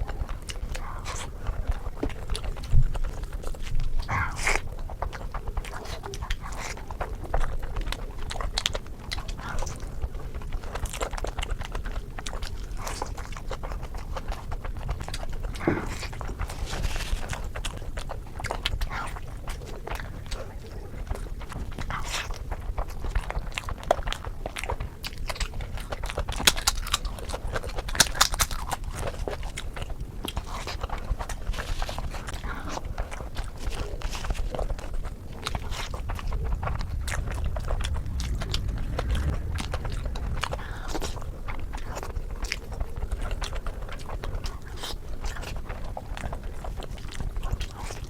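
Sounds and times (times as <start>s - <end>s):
person chewing crunchy food: 0.0s - 48.0s.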